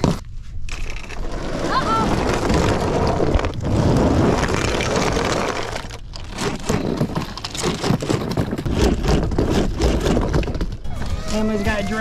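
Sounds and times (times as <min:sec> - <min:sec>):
plastic toy trucks rolling rumble: 0:00.0 - 0:11.8.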